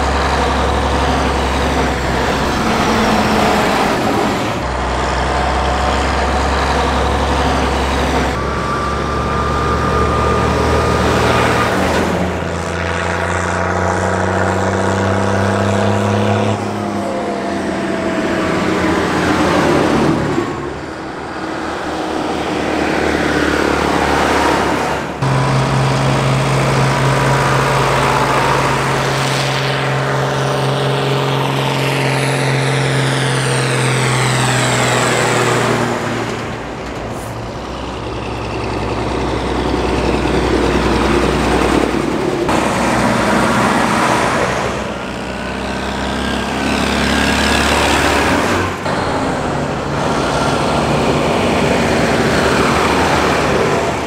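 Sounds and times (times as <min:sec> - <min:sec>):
tractor diesel engines passing: 0:00.0 - 0:54.0.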